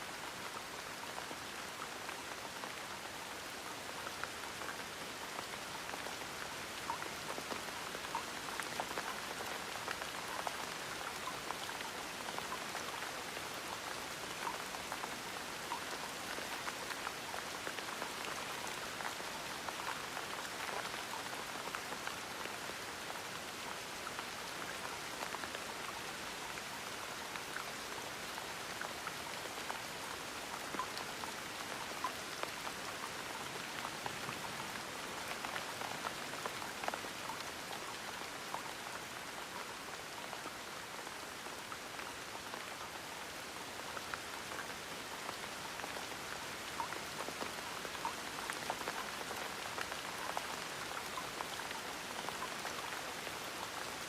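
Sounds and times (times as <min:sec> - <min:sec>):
gentle rain pattering: 0:00.0 - 0:54.0.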